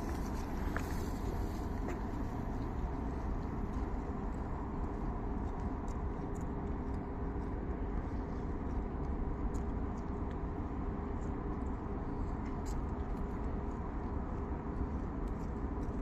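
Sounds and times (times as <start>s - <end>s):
low rumble of city noise: 0.0s - 16.0s.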